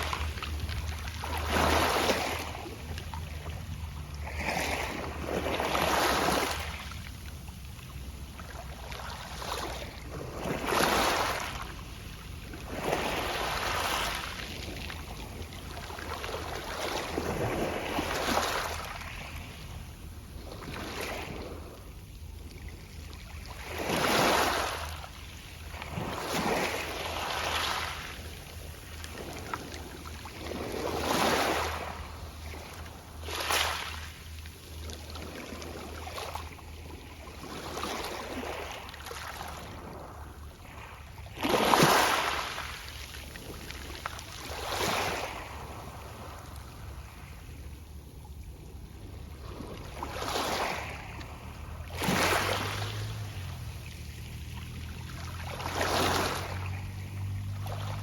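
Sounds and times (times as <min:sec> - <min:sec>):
waves washing onto pebble beach: 0:00.0 - 0:07.4, 0:08.4 - 0:21.8, 0:23.4 - 0:34.3, 0:35.0 - 0:47.3, 0:49.5 - 0:58.0.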